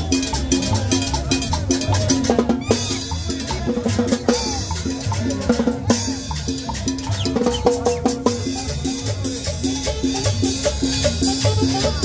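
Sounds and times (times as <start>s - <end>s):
upbeat latin dance music: 0.0s - 12.0s.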